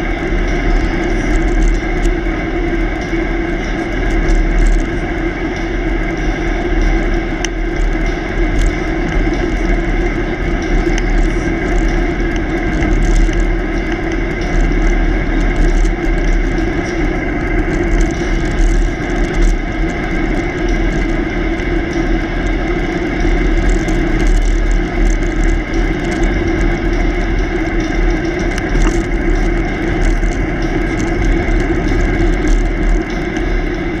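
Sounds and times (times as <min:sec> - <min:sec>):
bicycle tyres rolling on asphalt: 0:00.0 - 0:34.0
wind buffeting microphone: 0:00.0 - 0:34.0.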